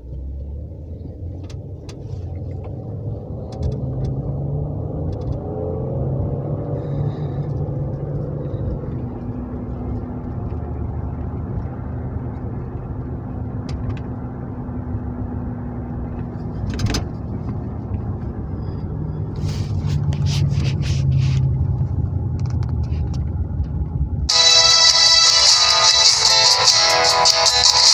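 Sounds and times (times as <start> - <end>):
car engine and road rumble: 0.0 - 27.9.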